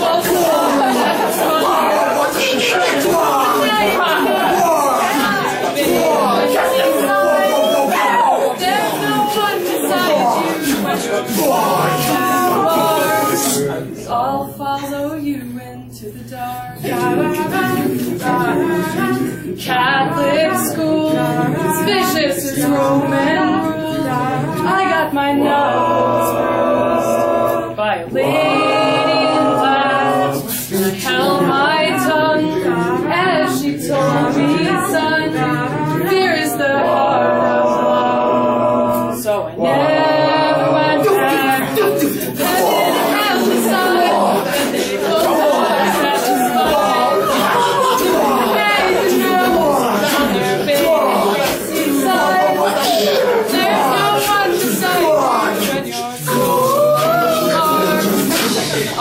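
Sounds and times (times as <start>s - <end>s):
a cappella group singing: 0.0s - 59.0s.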